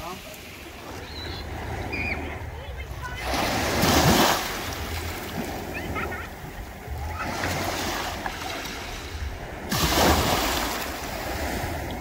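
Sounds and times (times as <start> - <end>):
waves washing on pebbly shore: 0.0 - 12.0.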